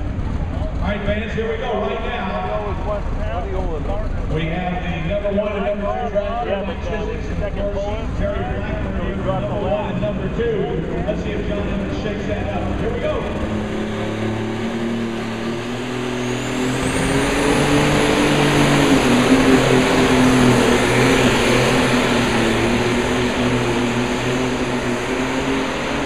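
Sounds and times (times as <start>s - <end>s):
tractor engine under load: 0.0s - 4.9s, 7.1s - 26.0s
high whine: 0.0s - 26.0s.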